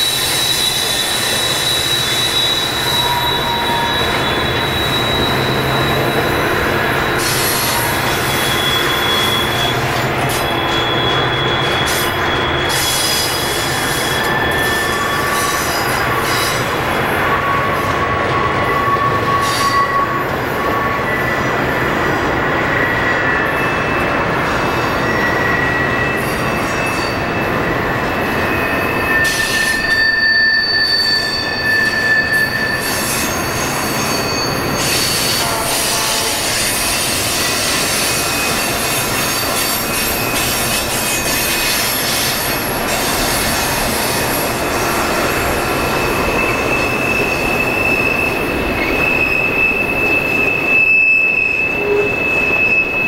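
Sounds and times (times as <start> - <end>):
train rumble: 0.0 - 53.0
wheels squealing against rail: 0.0 - 53.0.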